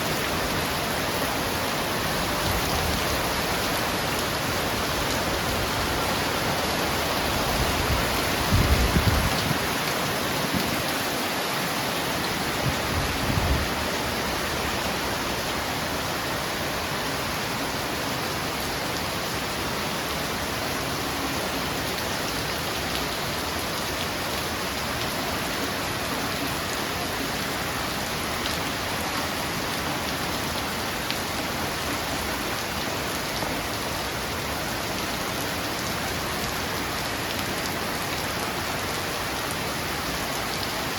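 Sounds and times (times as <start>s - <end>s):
rain pattering: 0.0s - 15.1s, 21.6s - 40.9s.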